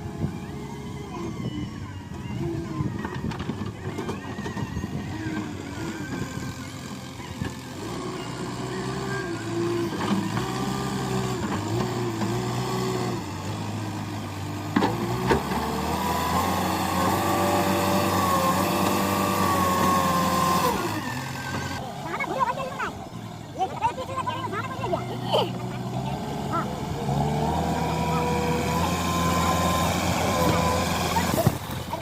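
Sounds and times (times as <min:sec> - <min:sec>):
backhoe diesel engine revving: 0:00.0 - 0:32.0.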